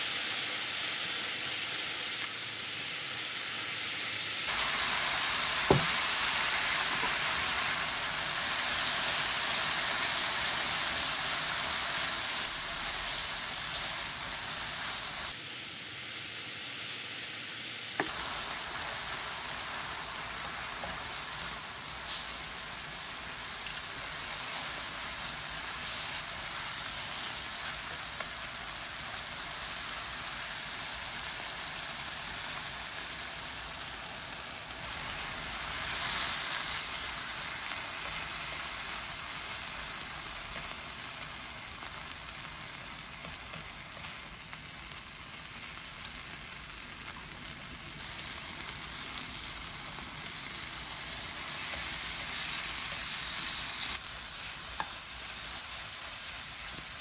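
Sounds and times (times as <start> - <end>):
onions sizzling in a pan: 0.0 - 57.0.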